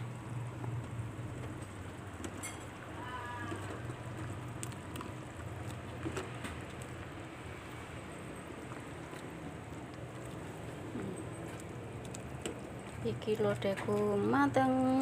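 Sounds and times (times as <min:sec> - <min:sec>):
pot simmering with bubbling hiss: 0:00.0 - 0:15.0.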